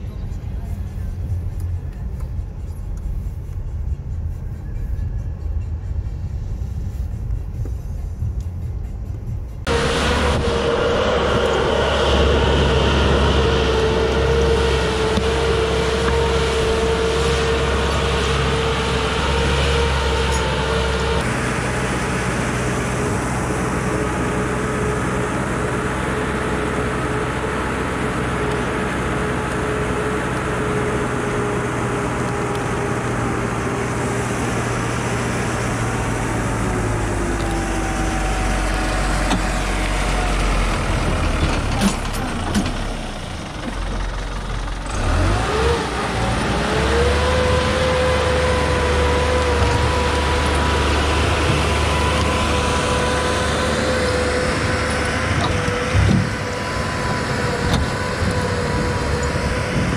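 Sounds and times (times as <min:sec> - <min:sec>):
diesel engine running: 0:00.0 - 0:59.9
engine whine: 0:00.0 - 0:59.9.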